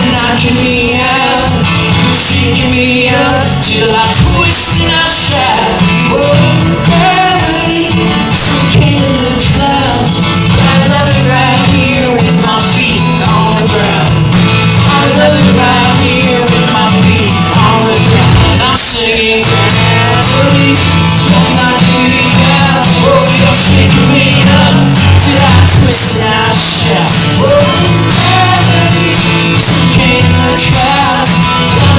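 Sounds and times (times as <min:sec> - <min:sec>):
acoustic guitar strumming: 0:00.0 - 0:31.9
man singing: 0:00.0 - 0:31.9.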